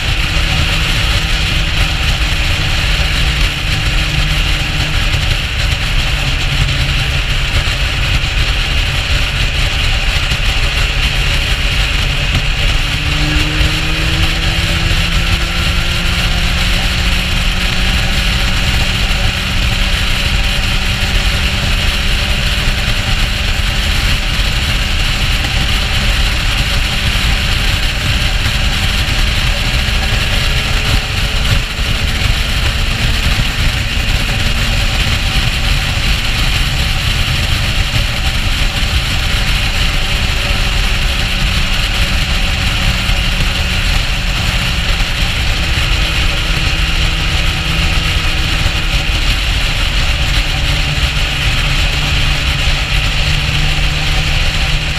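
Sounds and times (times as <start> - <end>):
motorcycle engine hum: 0.0 - 54.9
wind and road noise: 0.0 - 54.9.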